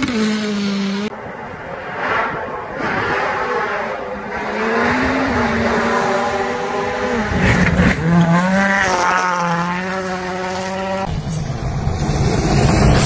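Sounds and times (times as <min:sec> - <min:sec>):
rally car engine revving: 0:01.8 - 0:13.0.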